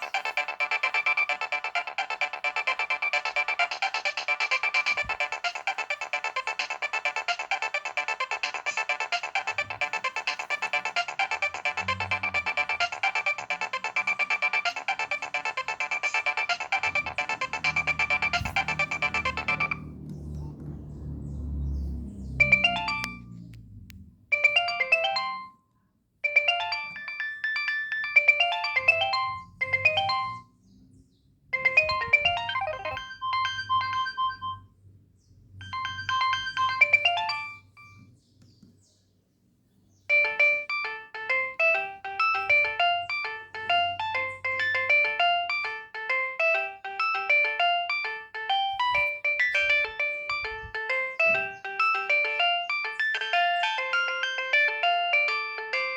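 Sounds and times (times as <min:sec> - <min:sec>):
electronic phone ringtone tune: 0:00.0 - 0:19.9, 0:22.4 - 0:23.2, 0:24.3 - 0:25.6, 0:26.2 - 0:30.5, 0:31.6 - 0:34.7, 0:35.6 - 0:38.0, 0:40.1 - 0:55.9.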